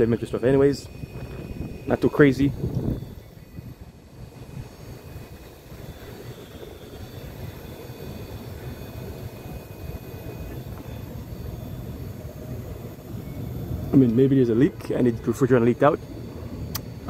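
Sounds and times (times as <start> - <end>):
air conditioning unit rumbling: 0.0 - 17.0.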